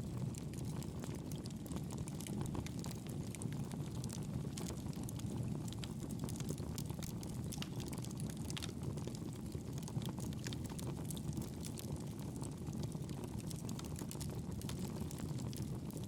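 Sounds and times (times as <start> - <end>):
fire crackling and popping: 0.0 - 16.0
campfire flames rushing: 0.1 - 16.0.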